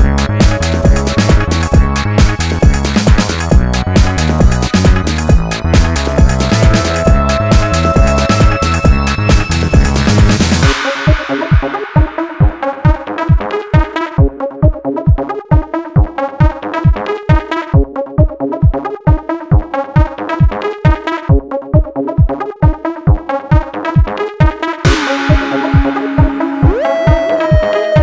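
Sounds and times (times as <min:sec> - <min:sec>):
electronic dance music: 0:00.0 - 0:28.0
kick drum: 0:00.0 - 0:28.0
synthesizer pattern: 0:00.0 - 0:28.0.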